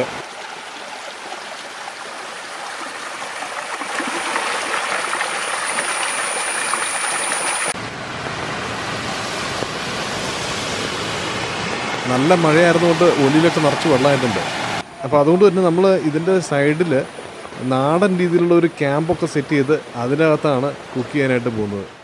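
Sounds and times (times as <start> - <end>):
stream cascading over rocks: 0.0 - 8.4, 9.1 - 21.3.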